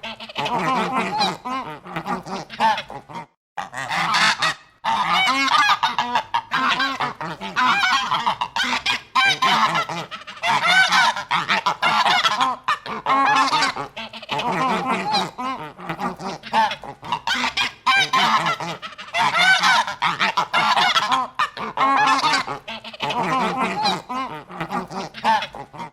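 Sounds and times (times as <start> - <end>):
geese honking: 0.0 - 25.9.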